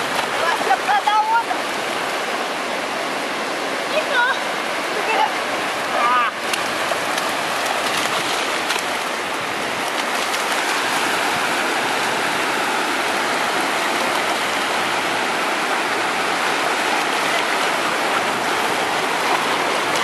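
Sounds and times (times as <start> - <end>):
small waves washing on shore: 0.0 - 20.0.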